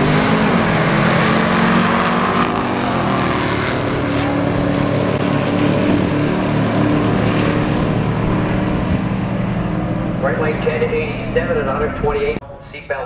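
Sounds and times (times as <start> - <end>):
race car engine accelerating: 0.0 - 12.4.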